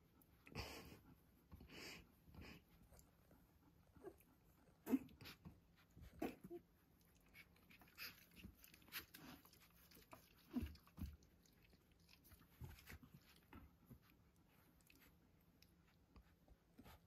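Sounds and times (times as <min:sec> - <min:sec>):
puppy noises: 0:00.0 - 0:17.0
puppies nibbling and mouthing: 0:00.2 - 0:17.0.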